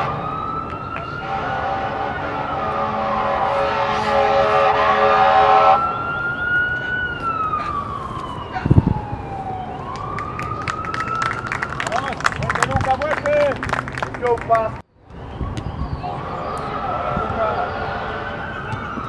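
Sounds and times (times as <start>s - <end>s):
emergency siren wailing: 0.0s - 12.6s, 15.0s - 19.0s.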